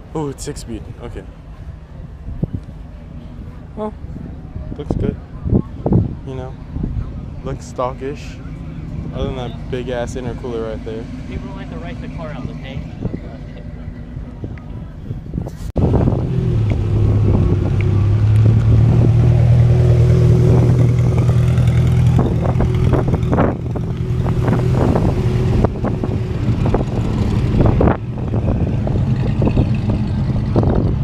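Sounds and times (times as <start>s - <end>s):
car engine running: 2.6s - 31.0s.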